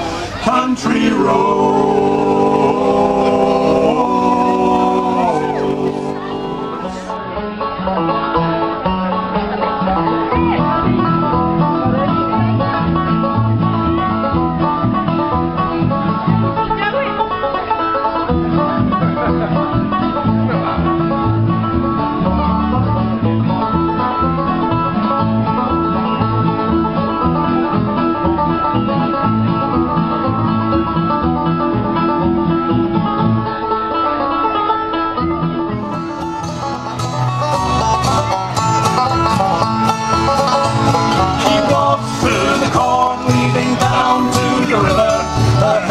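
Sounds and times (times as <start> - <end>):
bluegrass band playing: 0.0 - 45.9.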